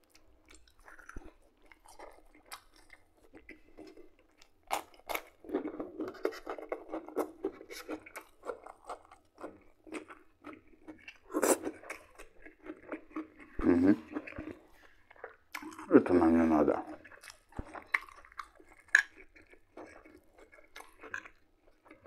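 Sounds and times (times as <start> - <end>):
man chewing food: 0.0 - 22.0.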